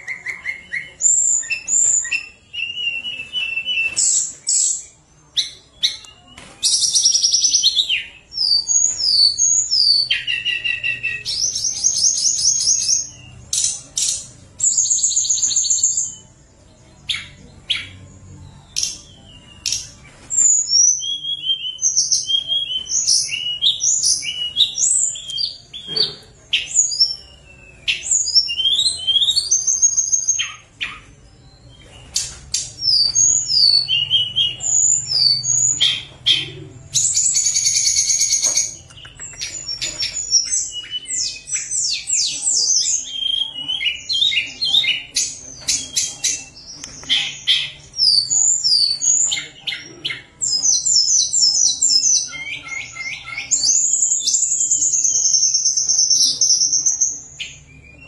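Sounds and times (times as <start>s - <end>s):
bird singing chirps and whistles: 0.0s - 58.0s.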